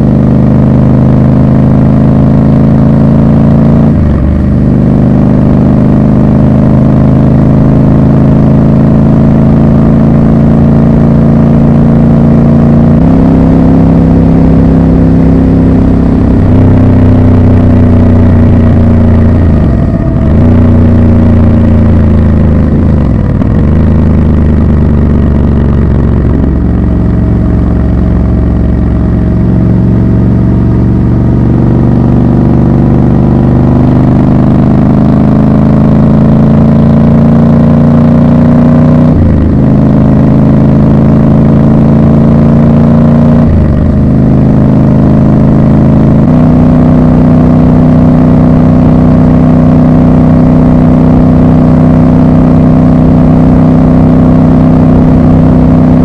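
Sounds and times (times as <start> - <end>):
motorcycle engine at road speed: 0.0 - 56.0.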